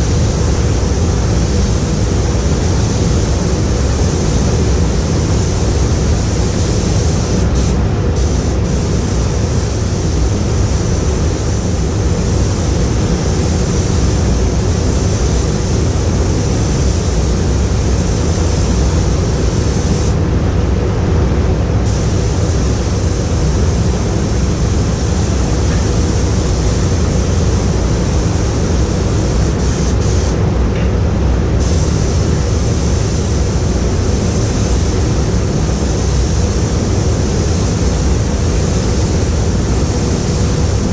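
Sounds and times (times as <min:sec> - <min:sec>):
compressed air gun hissing: 0:00.0 - 0:20.2, 0:21.8 - 0:30.4, 0:31.6 - 0:40.9
ventilation fans rumbling: 0:00.0 - 0:40.9.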